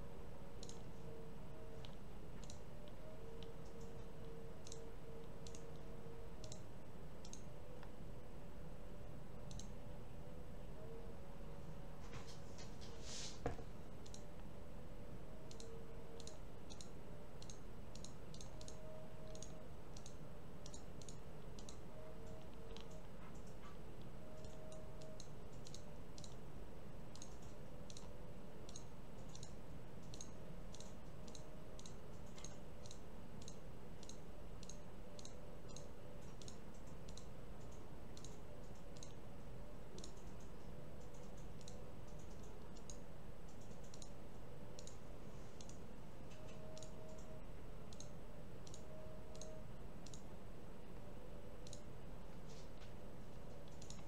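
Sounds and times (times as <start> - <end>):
steady low hum: 0.0 - 54.0
computer mouse clicking: 0.5 - 8.0, 9.4 - 9.9, 13.5 - 14.5, 15.3 - 50.4, 51.0 - 54.0.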